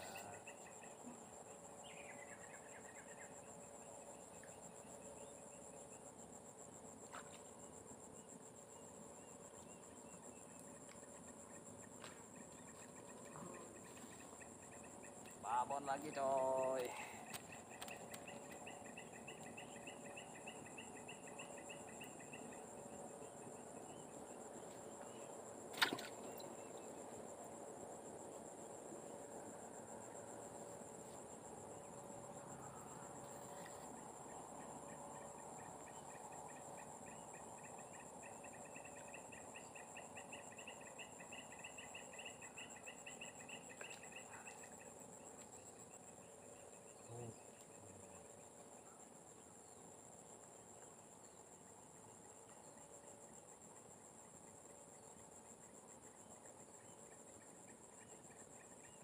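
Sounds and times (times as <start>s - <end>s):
rapidly pulsing insect trill: 0.0s - 59.0s.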